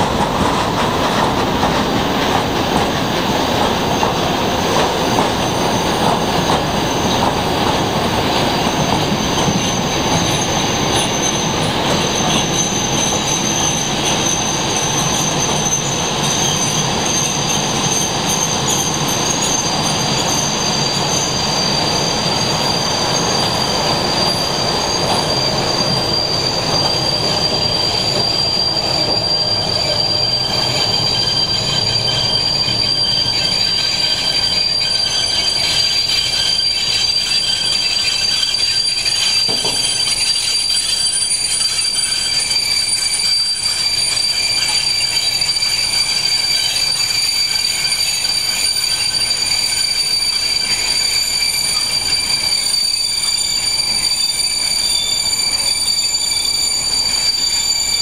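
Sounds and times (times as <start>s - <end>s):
metallic squeal of train wagons: 0.0s - 58.0s
rumble of train wheels: 0.0s - 58.0s.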